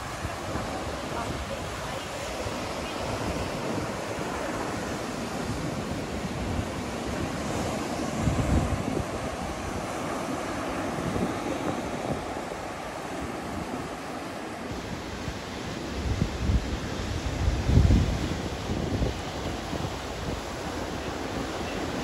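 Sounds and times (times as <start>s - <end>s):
surf washing over rocks: 0.0s - 22.0s
wind on microphone: 0.0s - 22.0s.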